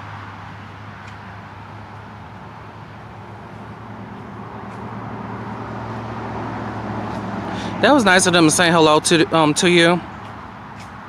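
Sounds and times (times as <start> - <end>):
passing cars rushing: 0.0 - 11.0.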